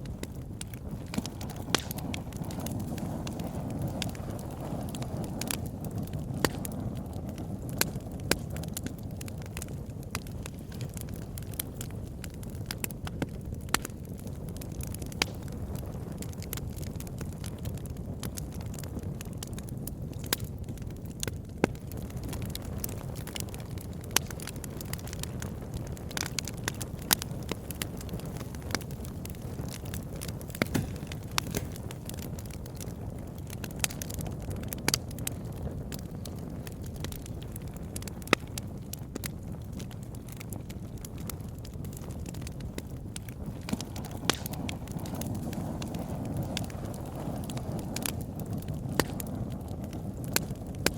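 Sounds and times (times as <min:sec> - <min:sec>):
campfire crackling and popping: 0:00.0 - 0:50.9
flames rumbling: 0:00.0 - 0:50.9.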